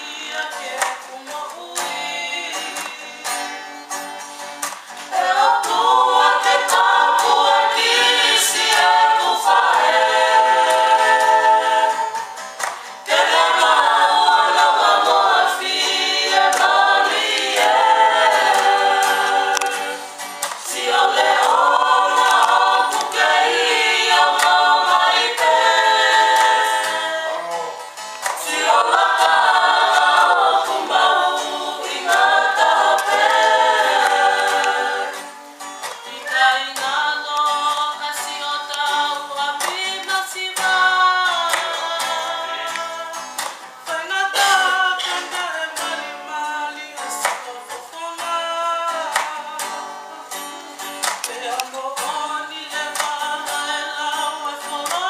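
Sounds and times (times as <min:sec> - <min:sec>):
group of people singing: 0:00.0 - 0:55.0
strummed acoustic guitar: 0:00.0 - 0:55.0.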